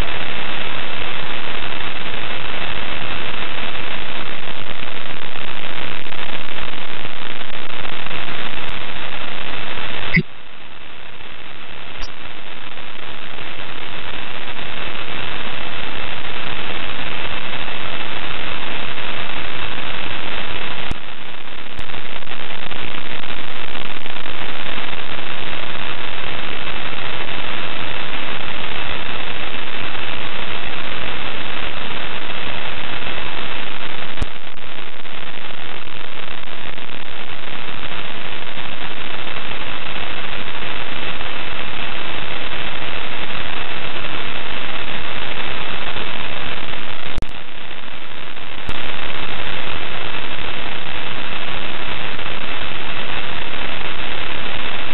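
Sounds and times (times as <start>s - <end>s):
radio static hiss: 0.0s - 54.9s.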